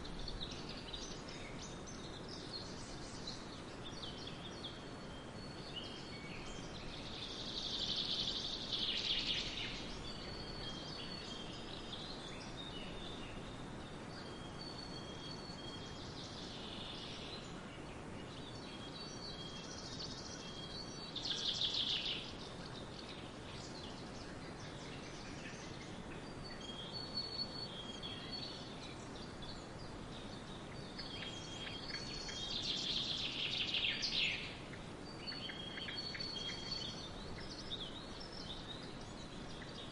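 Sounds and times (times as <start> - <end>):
forest birds singing: 0.0 - 39.9
steady background hiss: 0.0 - 39.9.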